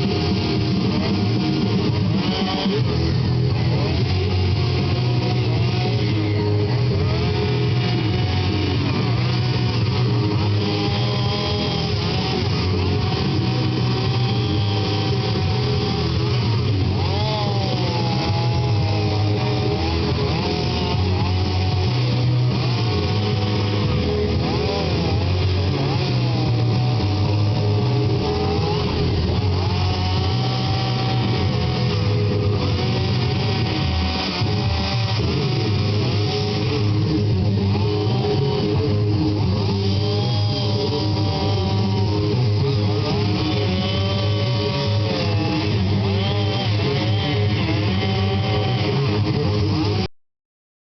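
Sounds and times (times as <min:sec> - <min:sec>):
chainsaw cutting wood: 0:00.0 - 0:50.1
guitar music: 0:00.0 - 0:50.1.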